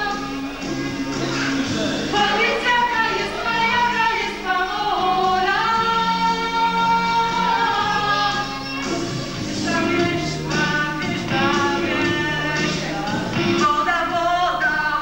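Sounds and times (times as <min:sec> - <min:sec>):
women singing: 0:00.0 - 0:00.4, 0:02.1 - 0:08.8, 0:09.5 - 0:15.0
musical accompaniment: 0:00.0 - 0:15.0.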